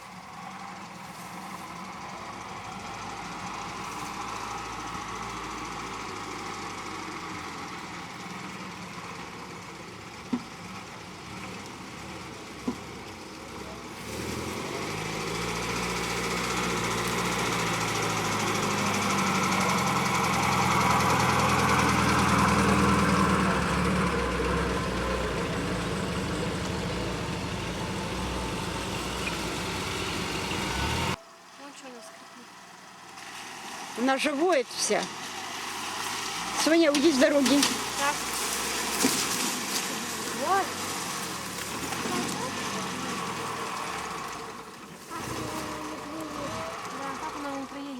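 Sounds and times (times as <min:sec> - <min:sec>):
vehicle engine running under load: 0:00.0 - 0:47.9.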